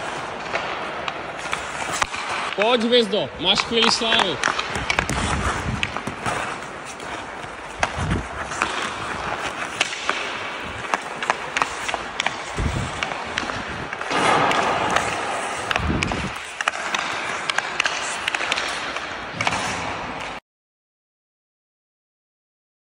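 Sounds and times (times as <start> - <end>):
skates scraping on ice: 0.0 - 20.4
stick clicking on puck: 0.3 - 19.7.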